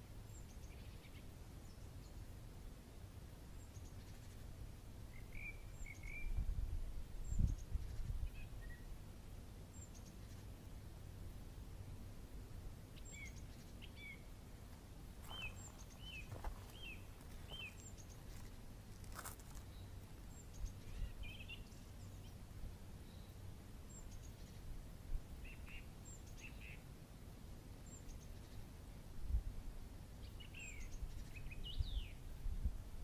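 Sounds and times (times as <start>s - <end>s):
small birds chirping: 0.0s - 2.3s, 2.9s - 6.6s, 7.2s - 11.3s, 12.8s - 26.9s, 27.8s - 29.0s, 30.2s - 32.4s
low steady rumble: 0.0s - 33.0s.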